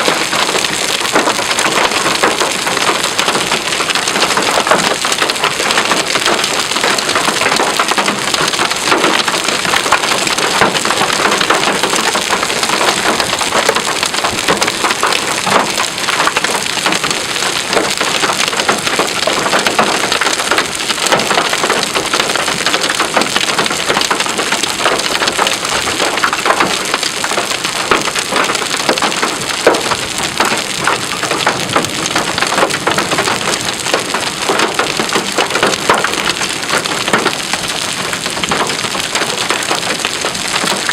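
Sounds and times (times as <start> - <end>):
heavy rain on a hard surface: 0.0 - 40.9.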